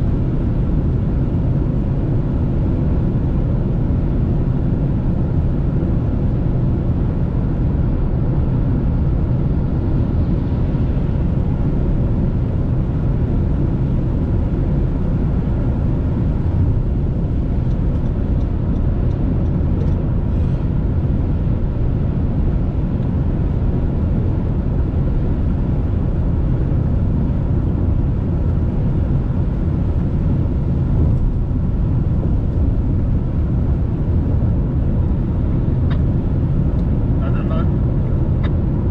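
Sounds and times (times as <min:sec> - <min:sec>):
car cabin road and engine rumble: 0:00.0 - 0:38.9.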